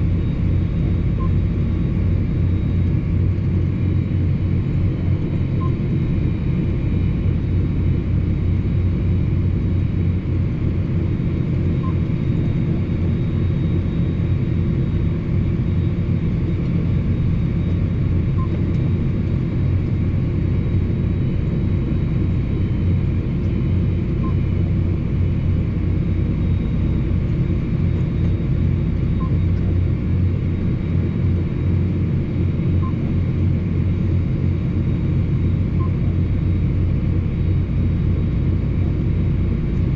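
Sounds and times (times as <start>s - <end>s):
tractor diesel engine drone: 0.0s - 39.9s.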